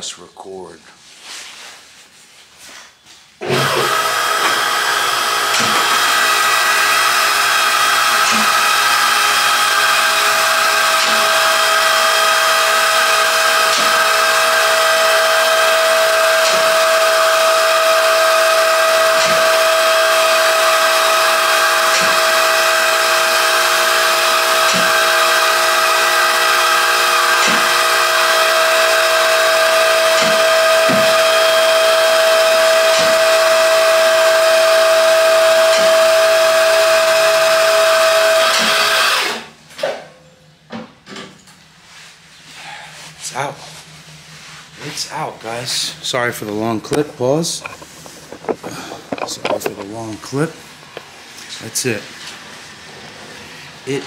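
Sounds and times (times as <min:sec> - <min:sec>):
hydraulic pump motor whining: 0:03.4 - 0:40.0, 0:44.7 - 0:51.6.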